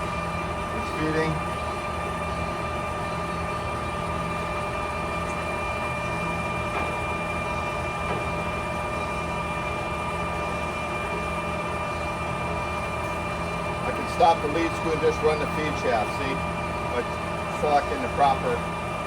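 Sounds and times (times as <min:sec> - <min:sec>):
lathe motor hum: 0:00.0 - 0:19.0.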